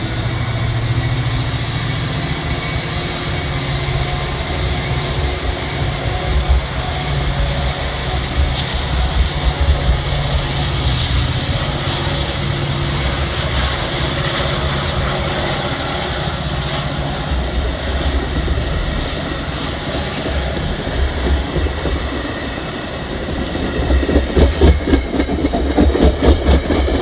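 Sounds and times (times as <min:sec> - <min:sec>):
diesel locomotive drone: 0:00.0 - 0:27.0
train wheels rumbling on rail: 0:00.0 - 0:27.0.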